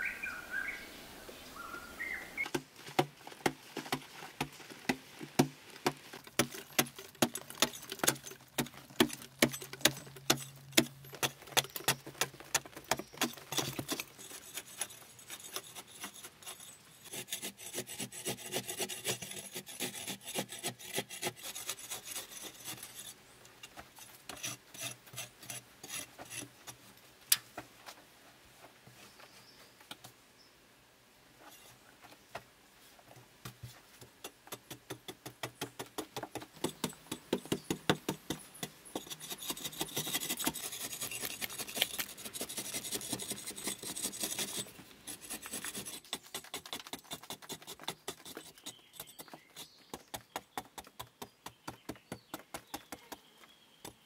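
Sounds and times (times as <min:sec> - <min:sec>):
blade scraping earth wall: 0:02.0 - 0:27.0, 0:33.5 - 0:53.3.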